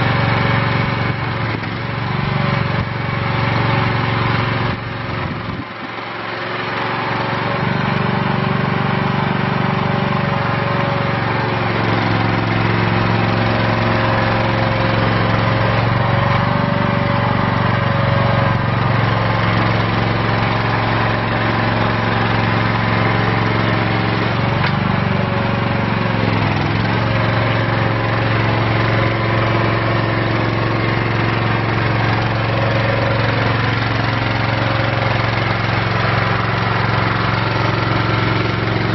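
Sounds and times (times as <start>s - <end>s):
forklift engine running: 0.0s - 38.9s.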